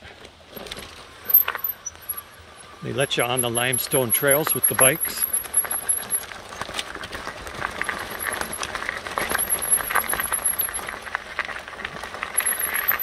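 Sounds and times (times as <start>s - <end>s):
tyres crunching over gravel: 0.0s - 13.0s.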